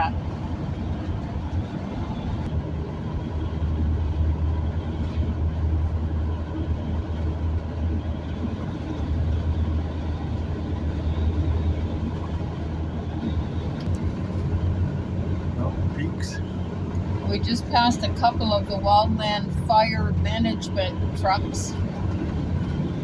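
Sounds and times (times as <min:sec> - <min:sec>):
tyre noise on road: 0:00.0 - 0:23.0
vehicle engine drone: 0:00.0 - 0:23.0.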